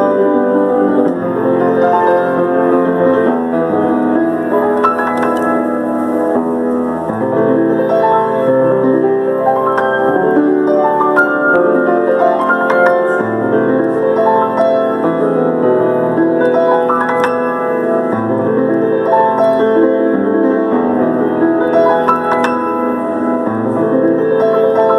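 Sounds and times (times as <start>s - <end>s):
solo piano playing: 0.0s - 24.9s.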